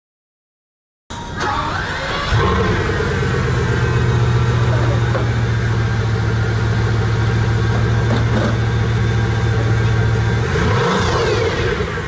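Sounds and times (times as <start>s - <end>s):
car engine idling: 1.4s - 12.0s.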